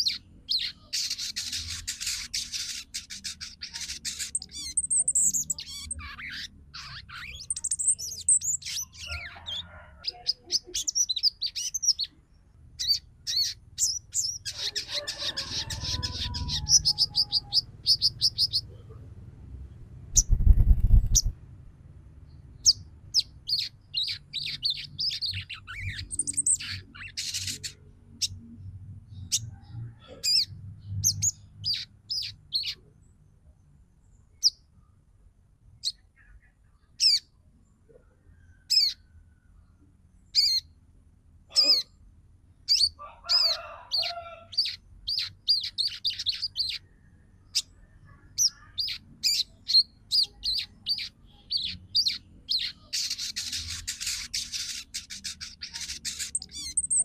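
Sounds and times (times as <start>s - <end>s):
bird chittering trills and chirps: 0.0s - 19.0s, 20.1s - 21.4s, 22.3s - 32.9s, 35.8s - 37.3s, 38.5s - 39.2s, 40.3s - 40.8s, 42.6s - 57.0s.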